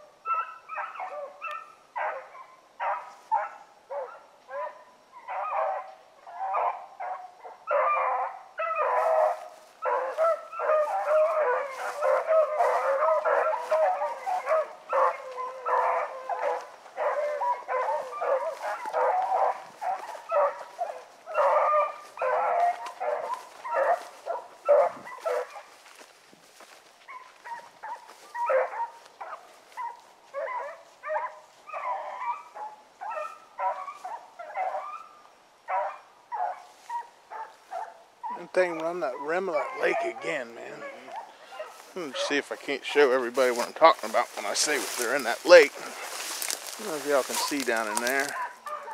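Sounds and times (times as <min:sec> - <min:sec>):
hounds baying: 0:00.0 - 0:48.9.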